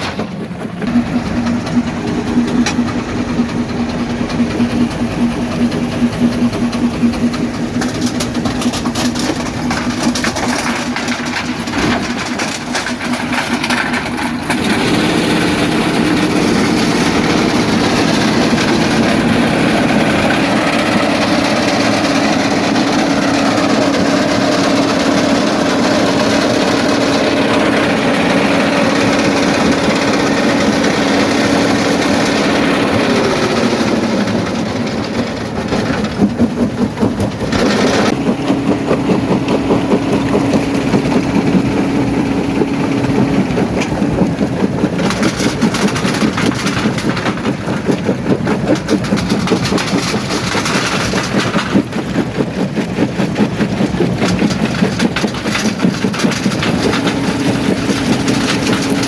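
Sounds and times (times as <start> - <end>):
crusher mechanical hum: 0.0 - 59.0.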